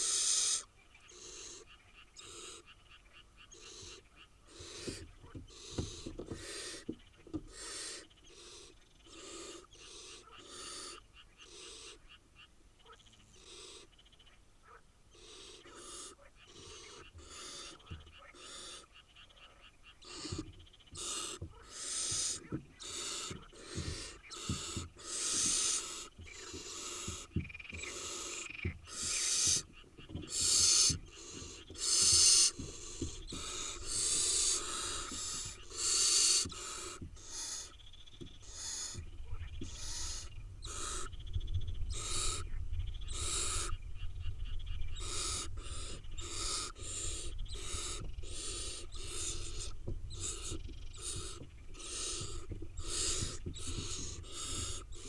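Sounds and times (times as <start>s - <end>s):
owl chicks hissing calls: 0.0s - 2.8s, 3.5s - 12.2s, 13.0s - 14.1s, 15.1s - 55.0s.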